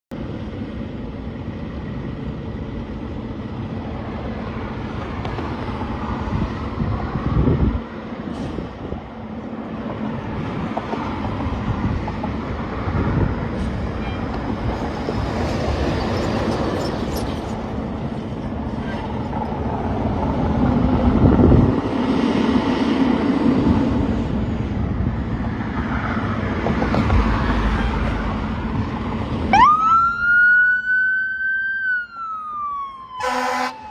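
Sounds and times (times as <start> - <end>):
roadway rumble: 0.1 - 33.9
vehicles passing close by: 0.2 - 33.9.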